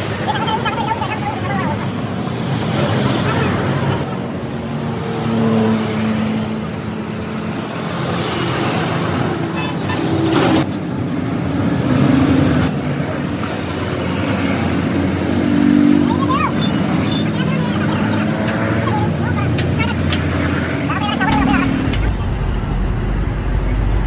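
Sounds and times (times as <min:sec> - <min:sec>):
road traffic: 0:00.0 - 0:24.0
vehicle engine hum: 0:00.0 - 0:24.0.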